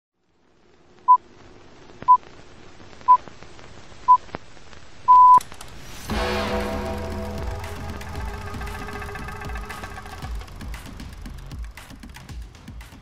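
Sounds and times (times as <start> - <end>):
faint hiss: 0.2 - 13.0.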